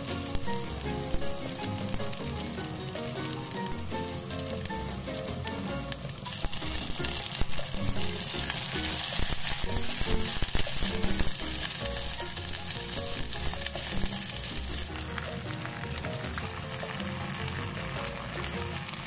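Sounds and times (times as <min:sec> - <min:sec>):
soft background music: 0:00.0 - 0:19.0
vegetables sizzling in hot oil: 0:00.0 - 0:19.0.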